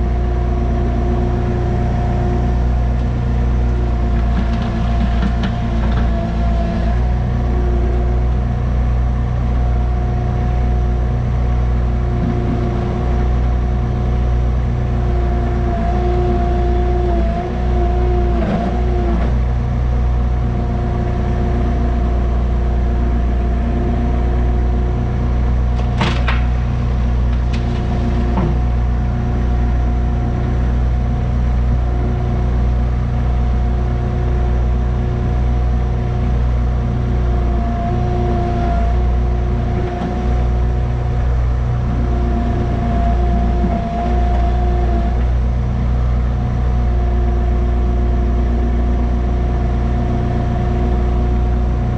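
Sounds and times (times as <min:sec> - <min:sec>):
excavator diesel engine running: 0:00.0 - 0:51.9
steady whine: 0:00.0 - 0:51.9.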